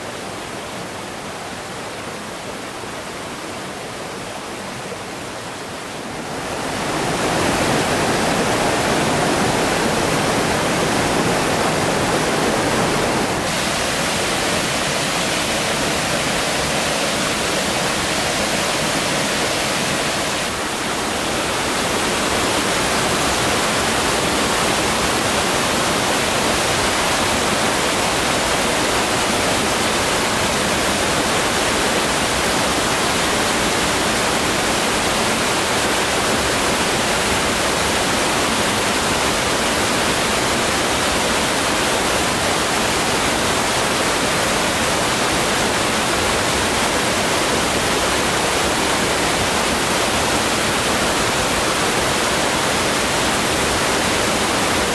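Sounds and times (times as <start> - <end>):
rushing falling water: 0.0 - 54.9.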